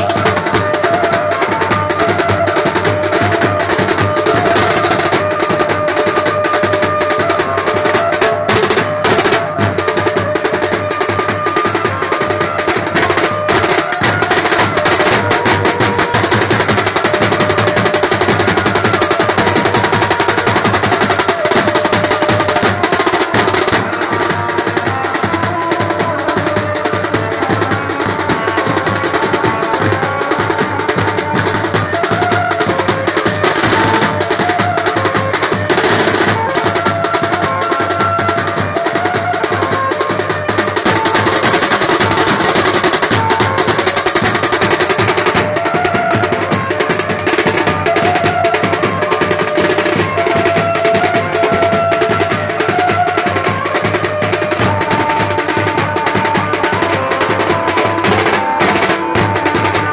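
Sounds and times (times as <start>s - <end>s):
drum band playing: 0.0s - 59.9s.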